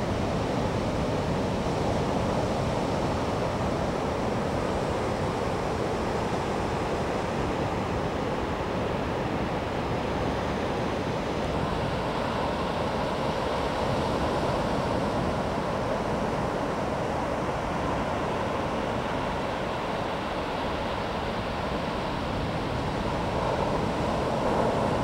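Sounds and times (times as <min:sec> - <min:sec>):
sea surf washing onto beach: 0:00.0 - 0:25.0.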